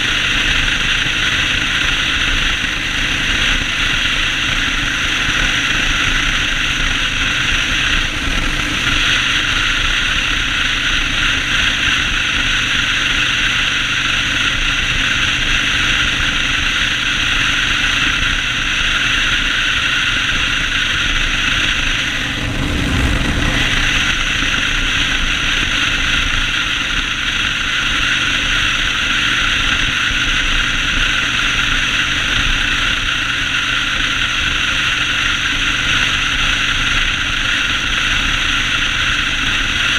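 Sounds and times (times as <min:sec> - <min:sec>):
motorcycle engine drone: 0:00.0 - 0:39.9
wind and road noise: 0:00.0 - 0:39.9.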